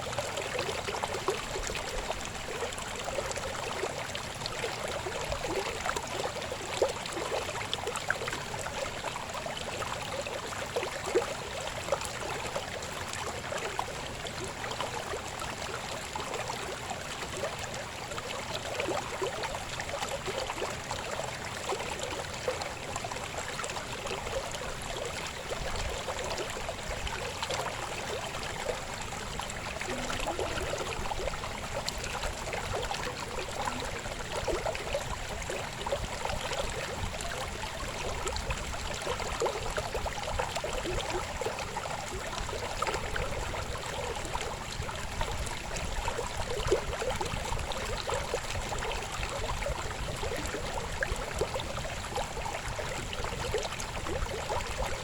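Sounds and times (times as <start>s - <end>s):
river babbling over stones: 0.0s - 55.0s.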